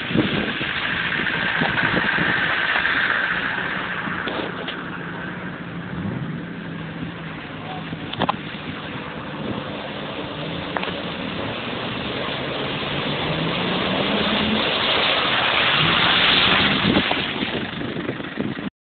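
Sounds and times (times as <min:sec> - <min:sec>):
vehicle engine under load: 0:00.0 - 0:18.7
water surging and splashing: 0:00.0 - 0:18.7.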